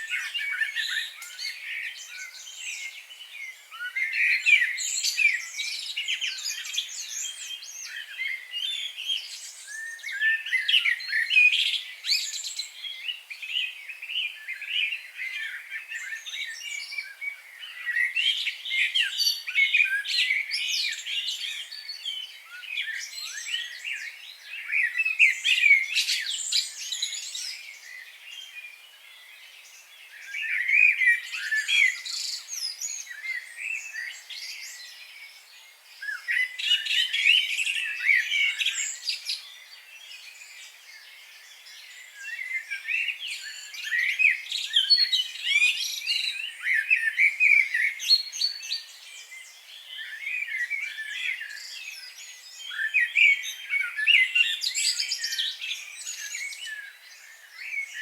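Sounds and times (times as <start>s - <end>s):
small birds singing and chirping: 0.0s - 58.0s.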